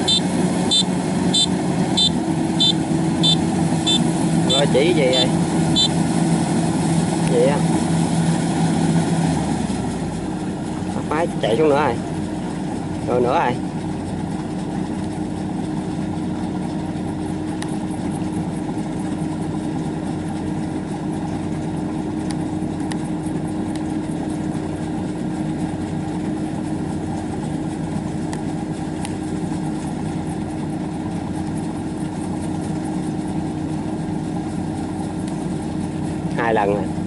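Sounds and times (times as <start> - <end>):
combine harvester engine drone: 0.0 - 37.0
low machinery hum: 0.0 - 37.0.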